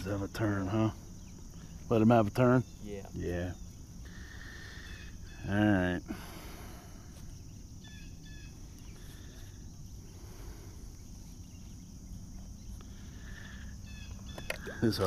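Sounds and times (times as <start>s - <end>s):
bird chirps: 0.0s - 6.1s, 7.0s - 15.0s
high insect chorus: 0.0s - 15.0s.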